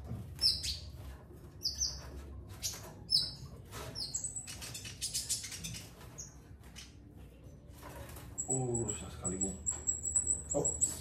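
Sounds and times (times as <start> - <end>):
bird chirping: 0.4 - 7.5, 8.3 - 11.0.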